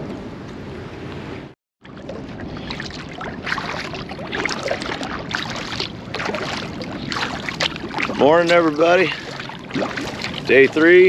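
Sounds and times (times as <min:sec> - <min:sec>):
wind on microphone: 0:00.0 - 0:11.0
water splashing around kayak: 0:01.8 - 0:11.0.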